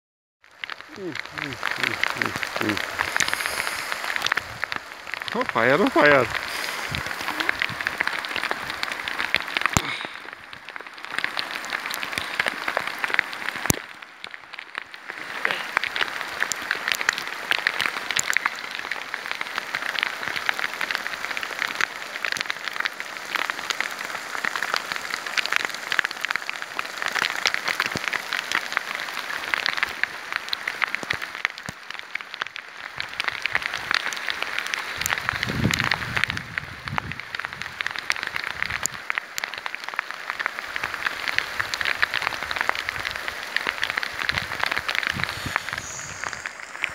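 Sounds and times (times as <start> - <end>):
rain pattering on lake: 0.4 - 46.9.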